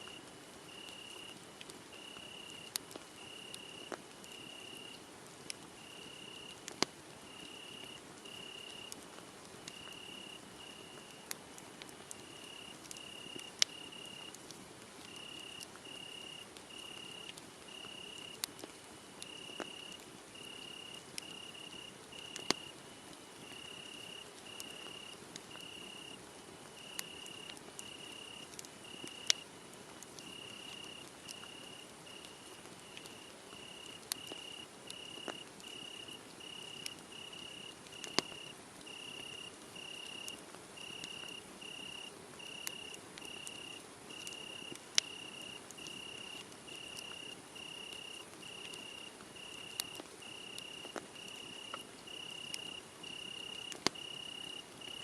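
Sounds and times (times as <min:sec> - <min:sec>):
cricket chirping: 0:00.0 - 0:01.3, 0:01.9 - 0:04.9, 0:05.8 - 0:06.5, 0:07.3 - 0:09.0, 0:09.7 - 0:11.2, 0:12.2 - 0:14.4, 0:15.1 - 0:18.4, 0:19.2 - 0:22.8, 0:23.4 - 0:26.2, 0:26.8 - 0:29.5, 0:30.2 - 0:55.0
wood fire crackling and popping: 0:00.1 - 0:54.9.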